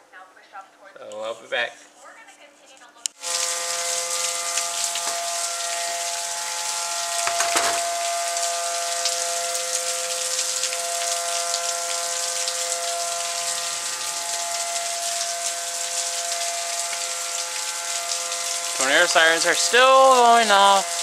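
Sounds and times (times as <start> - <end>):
rain hiss: 3.2 - 21.0
warning siren steady chord: 3.2 - 21.0.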